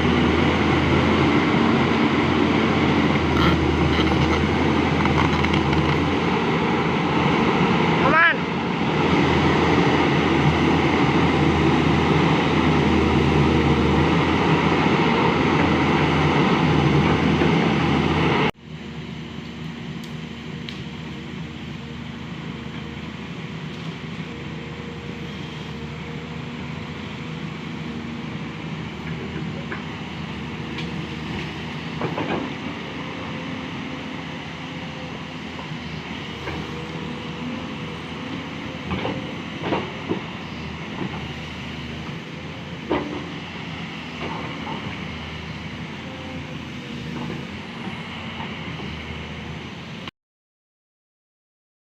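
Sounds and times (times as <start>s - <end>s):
excavator diesel engine: 0.0s - 50.1s.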